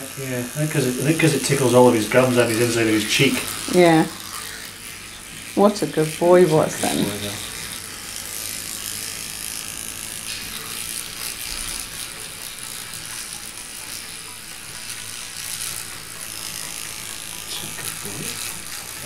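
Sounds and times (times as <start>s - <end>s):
electric toothbrush running: 0.0s - 19.0s.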